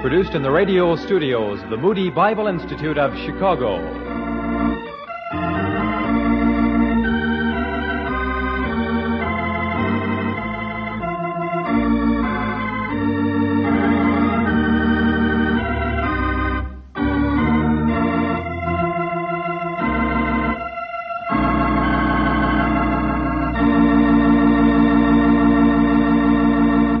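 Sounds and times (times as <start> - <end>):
organ chords: 0.0 - 27.0.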